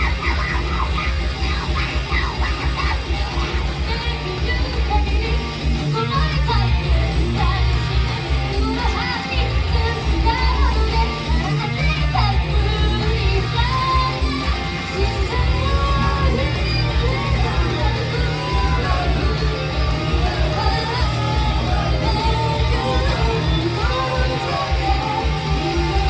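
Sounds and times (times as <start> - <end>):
live rock band: 0.0 - 26.0
vocalist singing and shouting: 0.0 - 26.0.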